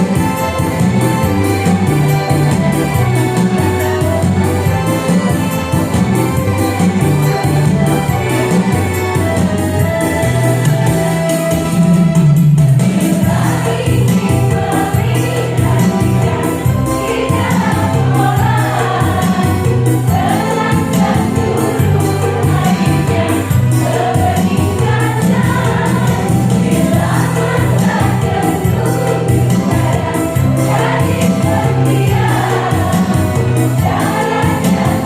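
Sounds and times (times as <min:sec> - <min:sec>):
women's choir singing: 0:00.0 - 0:11.2, 0:12.8 - 0:35.0
instrumental accompaniment: 0:00.0 - 0:35.0.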